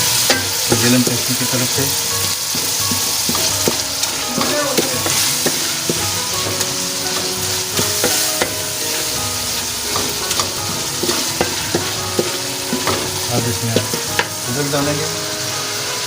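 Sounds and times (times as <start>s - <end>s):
meat sizzling in a pan: 0.0s - 16.0s
spoon scraping and clinking pan: 0.1s - 14.4s.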